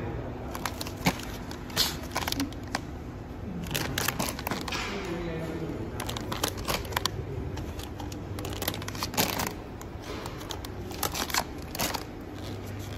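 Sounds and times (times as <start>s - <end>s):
steady low hum: 0.0s - 12.9s
plastic bags crinkling: 0.4s - 12.9s.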